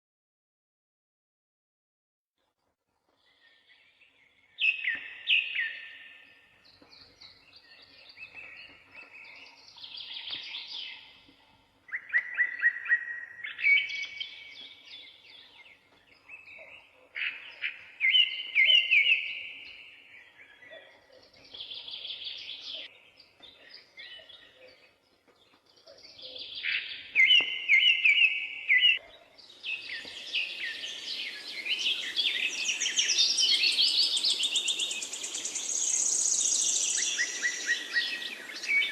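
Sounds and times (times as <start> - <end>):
songbirds singing: 3.1 - 38.9.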